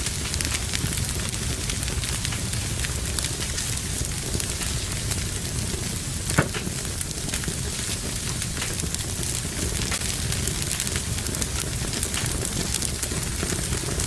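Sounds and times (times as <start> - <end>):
loud fire crack: 0.0 - 14.0
wood fire crackling: 0.0 - 14.0.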